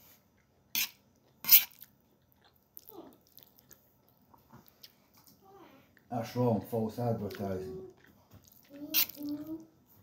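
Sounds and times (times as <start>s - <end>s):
faint chewing: 0.0s - 6.4s, 7.0s - 10.0s.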